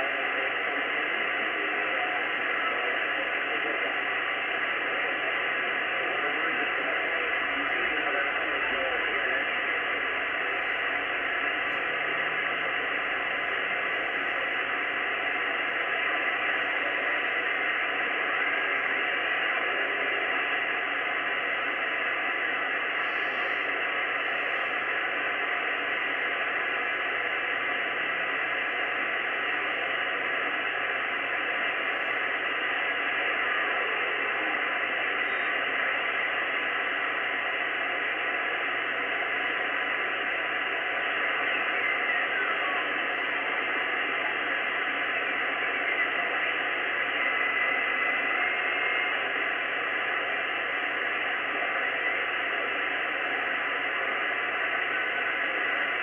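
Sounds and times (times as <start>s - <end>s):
radio receiver static hiss: 0.0s - 56.0s.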